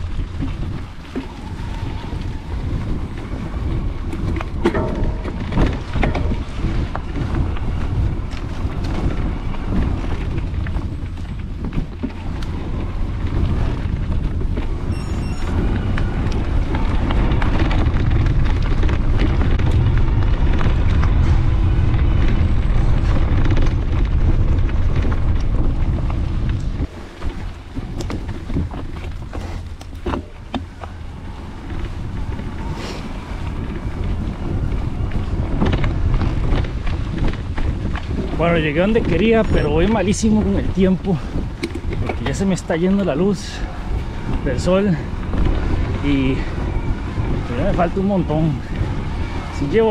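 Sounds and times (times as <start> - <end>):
bike knocks and rattles: 0.0 - 49.9
wind buffeting microphone: 0.0 - 49.9.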